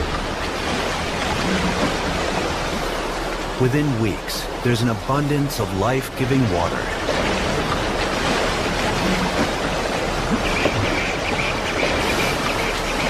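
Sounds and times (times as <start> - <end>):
water splashing and churning: 0.0 - 13.0.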